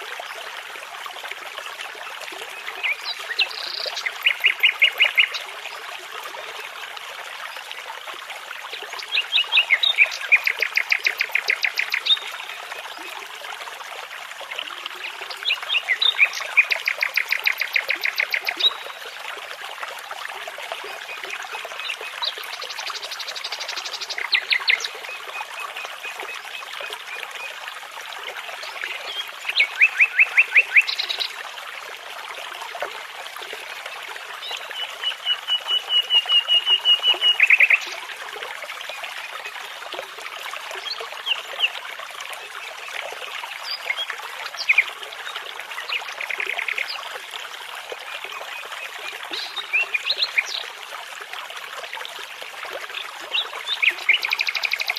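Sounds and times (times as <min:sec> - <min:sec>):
babbling brook: 0:00.0 - 0:54.9.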